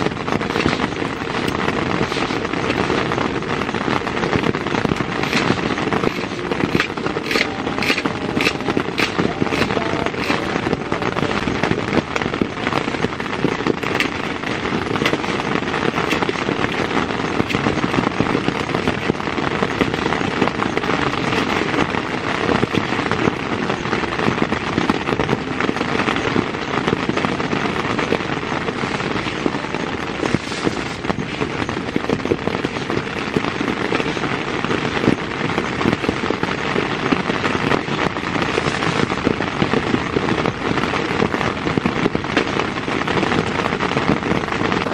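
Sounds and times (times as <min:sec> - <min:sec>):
heavy rain on a tent: 0:00.0 - 0:44.9.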